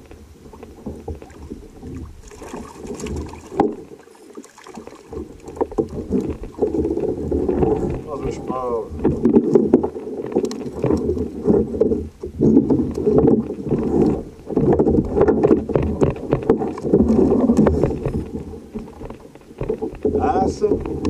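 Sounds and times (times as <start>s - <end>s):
water splashing against a hull: 0.0s - 21.0s.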